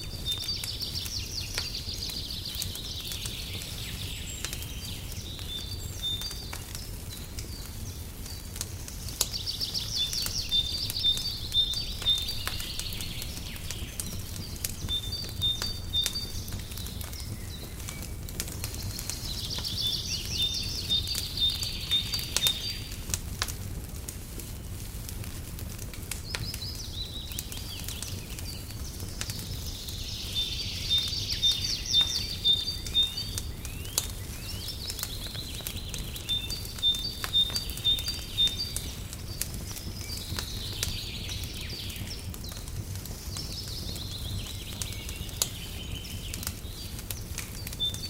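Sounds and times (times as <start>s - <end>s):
songbirds singing: 0.0s - 23.6s, 25.7s - 48.0s
wood fire crackling: 0.0s - 48.0s.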